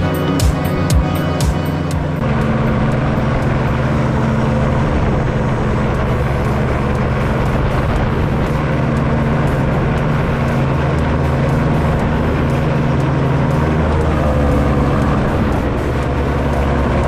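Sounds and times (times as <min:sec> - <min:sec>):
engine and propeller running: 0:00.0 - 0:17.0.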